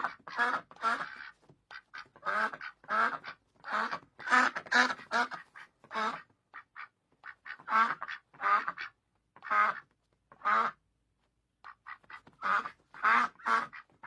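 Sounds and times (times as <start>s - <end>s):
duck quacking: 0.0s - 10.8s, 11.6s - 14.0s.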